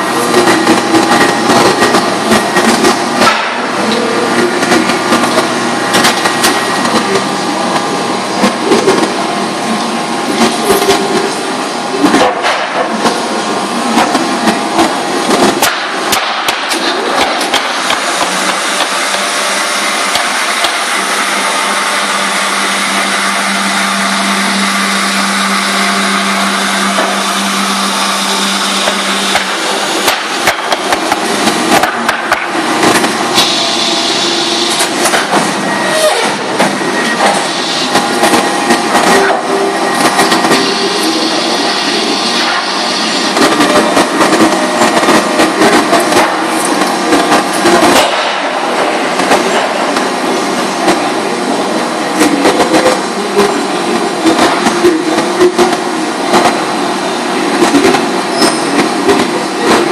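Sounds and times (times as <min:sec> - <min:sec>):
machinery running: 0:00.0 - 0:59.9.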